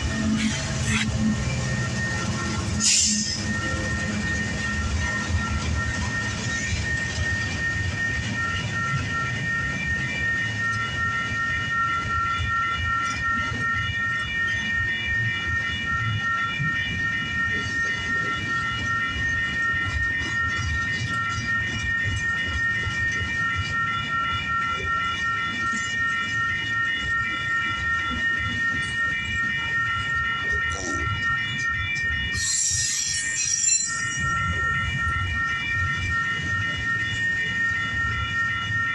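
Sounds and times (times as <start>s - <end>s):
high pulsing ringing tones: 0.0s - 38.9s.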